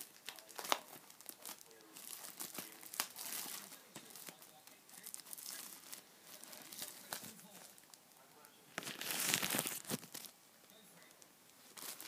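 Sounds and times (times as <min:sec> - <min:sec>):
plastic shrink-wrap crinkling: 0:00.0 - 0:08.0, 0:08.7 - 0:12.0.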